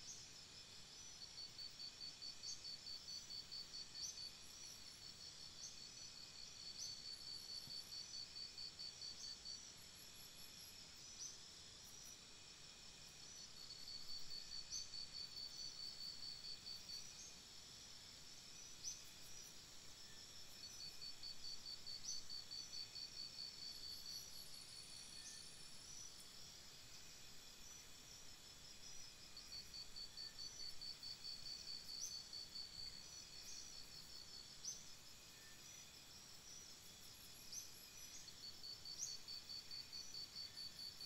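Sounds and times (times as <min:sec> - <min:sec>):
night insects chirping: 0:00.0 - 0:41.0.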